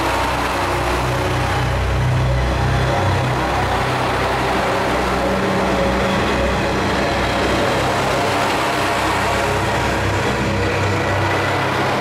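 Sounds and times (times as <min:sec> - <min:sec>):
diesel railcar engine running: 0:00.0 - 0:12.0
train cars rumbling by: 0:00.0 - 0:12.0.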